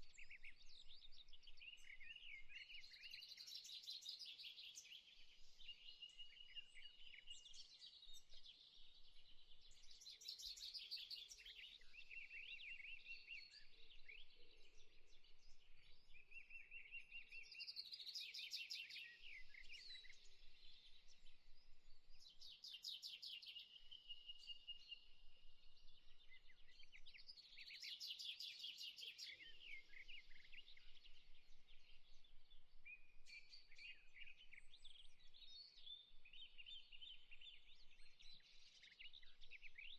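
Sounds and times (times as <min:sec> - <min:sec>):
faint birdsong: 0:00.0 - 0:39.9.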